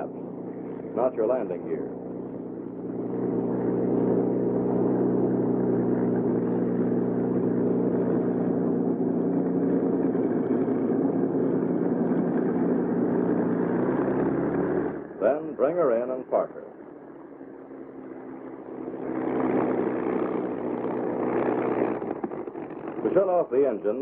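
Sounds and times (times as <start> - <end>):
aircraft engine droning: 0.0 - 24.0.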